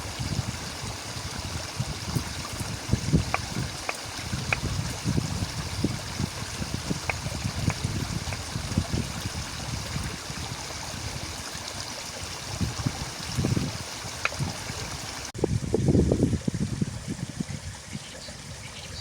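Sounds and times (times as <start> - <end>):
stream flowing and gurgling: 0.0 - 19.0.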